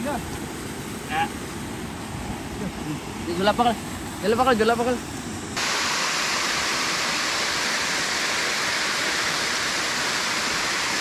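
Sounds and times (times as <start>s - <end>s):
flowing water rushing: 0.0s - 11.0s.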